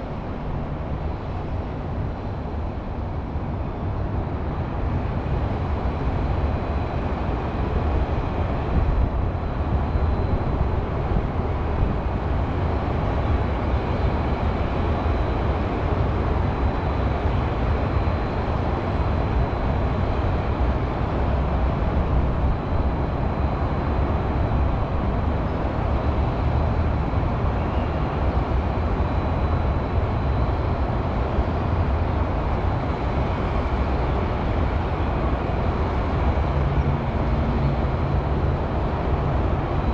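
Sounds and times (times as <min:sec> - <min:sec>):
faint high whine: 0:00.0 - 0:39.9
highway traffic hum: 0:00.0 - 0:39.9.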